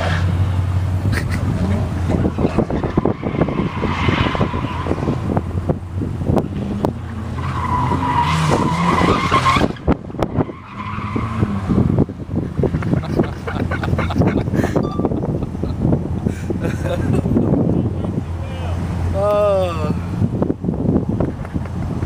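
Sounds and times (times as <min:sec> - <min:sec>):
car engine revving: 0:00.0 - 0:22.0
tires squealing: 0:00.0 - 0:22.0.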